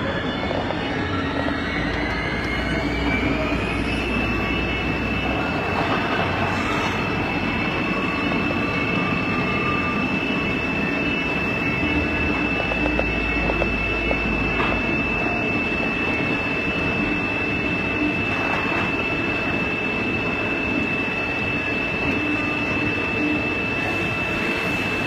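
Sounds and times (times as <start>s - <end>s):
high-pitched machine whine: 0.0s - 25.0s.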